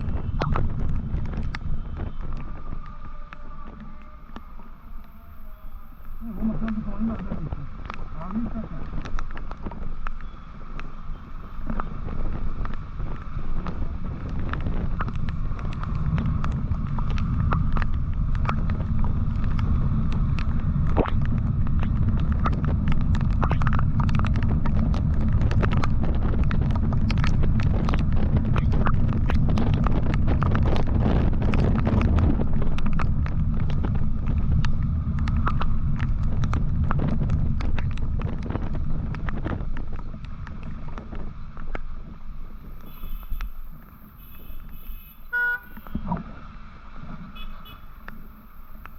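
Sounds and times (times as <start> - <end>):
motorcycle engine and road noise: 0.0 - 48.9
wind buffeting microphone: 0.0 - 48.9.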